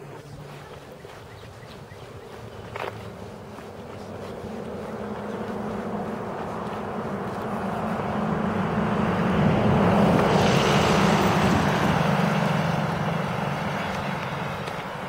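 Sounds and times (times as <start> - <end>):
motor vehicle passing by: 0.0 - 15.0.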